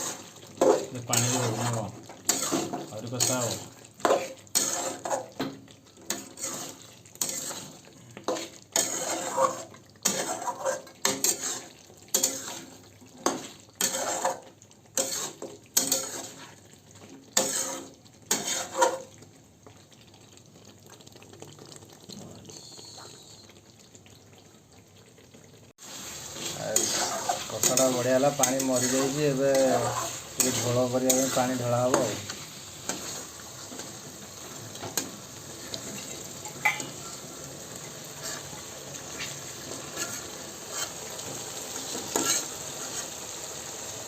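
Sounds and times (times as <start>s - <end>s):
spoon scraping and stirring curry: 0.0s - 19.3s, 25.9s - 37.3s, 38.1s - 43.4s.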